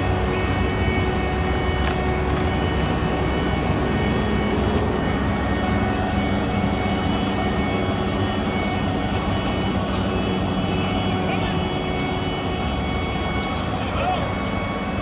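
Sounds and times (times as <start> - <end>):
diesel paving machinery drone: 0.0 - 15.0
steady high whine: 0.0 - 15.0.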